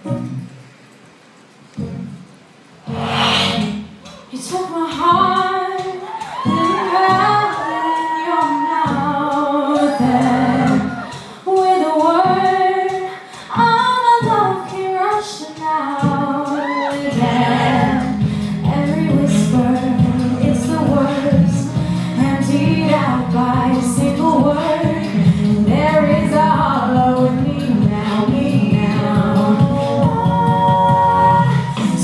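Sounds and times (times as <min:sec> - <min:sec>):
live concert music with singing: 0:02.9 - 0:32.0.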